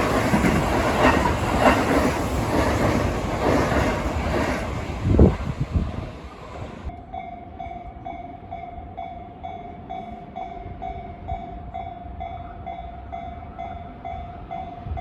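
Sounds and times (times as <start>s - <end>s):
passing train: 0.0s - 15.0s.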